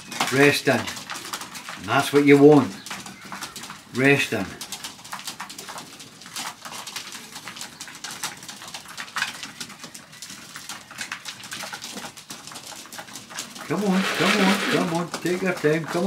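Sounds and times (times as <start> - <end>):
pigeons pecking and tapping: 0.0 - 16.0.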